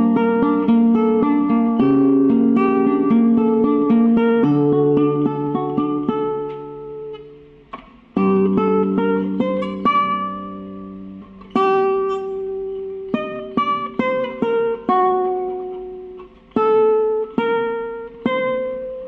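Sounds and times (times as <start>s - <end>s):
plucked guitar melody: 0.0s - 19.0s.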